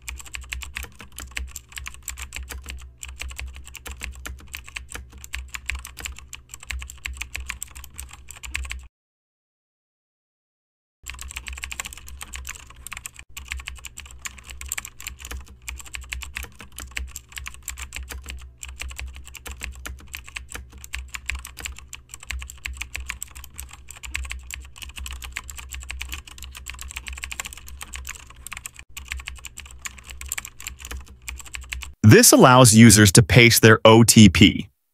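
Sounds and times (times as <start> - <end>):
computer keyboard typing: 0.0 - 8.9, 11.1 - 32.6.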